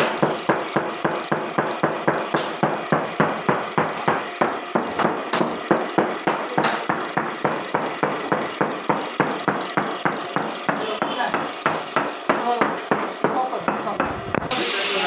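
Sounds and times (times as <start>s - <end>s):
hammer striking: 0.0s - 13.8s.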